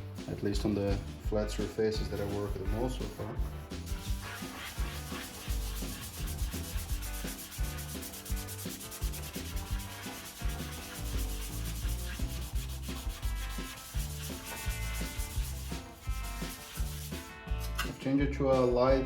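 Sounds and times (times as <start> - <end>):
scouring pad scrubbing metal: 2.0 - 17.9.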